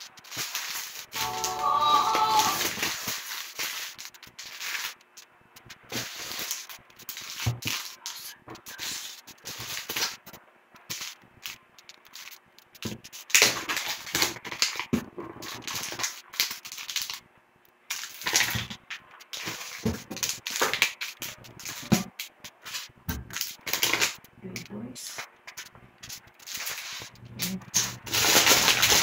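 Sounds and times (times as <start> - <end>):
plastic food packaging crinkling: 0.0 - 24.3, 25.1 - 29.0.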